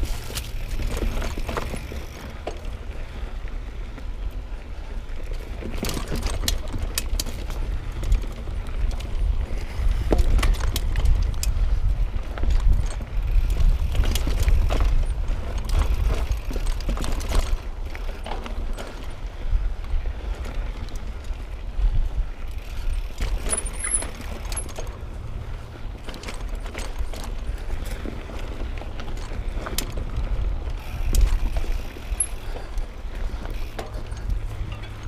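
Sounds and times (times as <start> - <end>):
bike clicks and rattles: 0.0 - 35.0.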